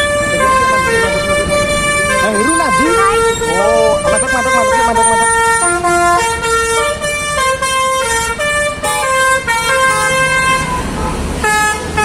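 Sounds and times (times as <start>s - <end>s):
multi-tone bus horn melody: 0.0s - 12.0s.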